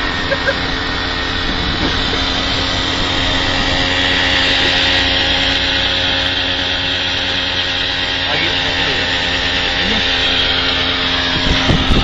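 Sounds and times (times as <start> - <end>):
constant hum: 0.0 - 12.0
loud mechanical noise: 0.0 - 12.0.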